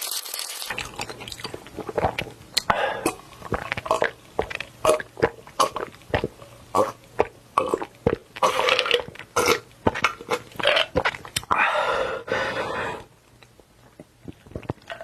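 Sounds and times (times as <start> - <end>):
mouth clicks and smacks eating: 0.7 - 11.5, 13.3 - 15.0.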